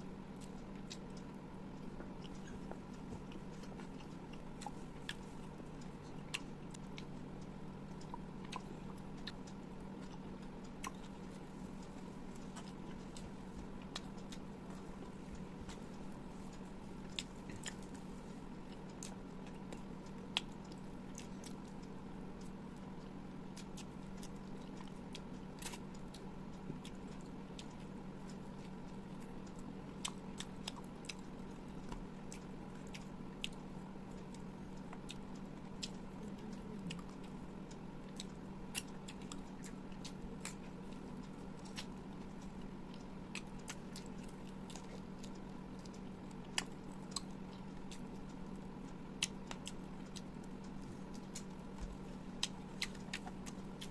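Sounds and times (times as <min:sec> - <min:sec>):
close chewing and biting: 0:00.0 - 0:53.9.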